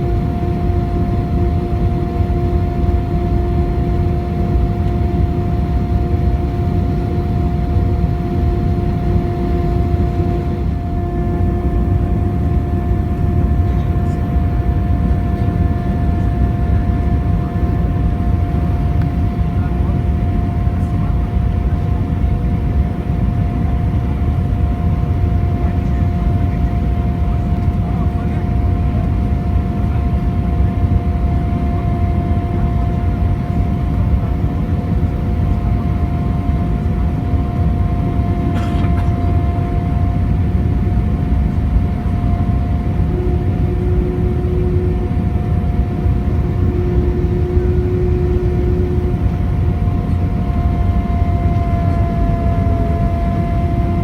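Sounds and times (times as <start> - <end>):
droning hum: 0.0 - 54.0
low roar of engines and airflow: 0.0 - 54.0.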